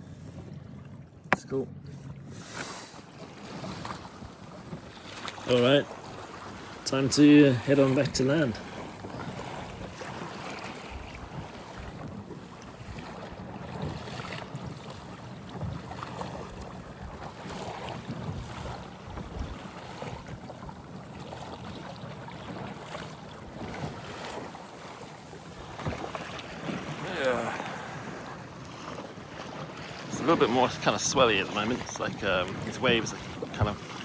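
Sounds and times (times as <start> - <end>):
water slapping against kayak: 0.0 - 34.0
wind buffeting microphone: 3.0 - 34.0.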